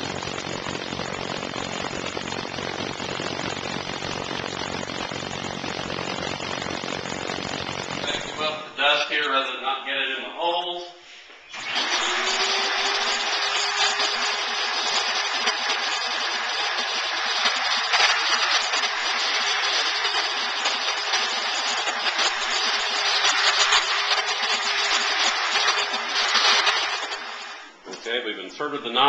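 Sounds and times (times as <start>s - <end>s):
vacuum cleaner running: 0.0s - 8.6s, 11.4s - 27.8s.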